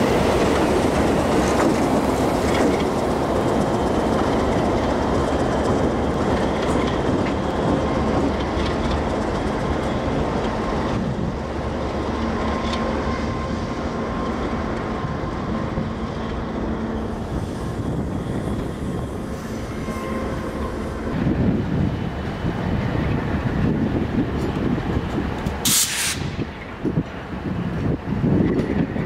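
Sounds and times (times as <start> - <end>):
train engine and rail rumble: 0.0 - 29.0.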